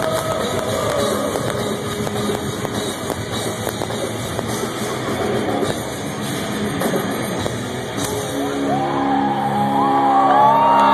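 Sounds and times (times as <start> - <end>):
distorted guitars: 0.0 - 10.9
drums: 0.0 - 10.9.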